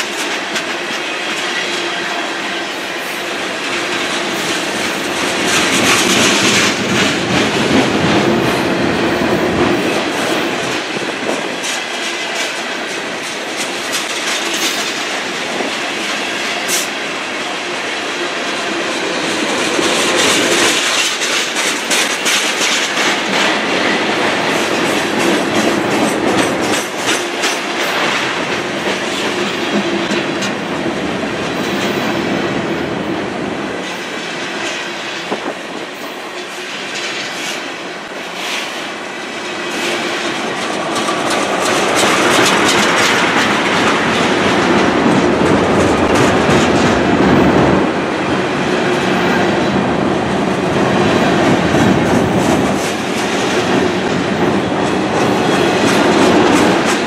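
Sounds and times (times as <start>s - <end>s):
wheels clicking over rail joints: 3.4s - 17.0s, 18.5s - 32.1s, 33.7s - 48.3s, 49.8s - 57.0s.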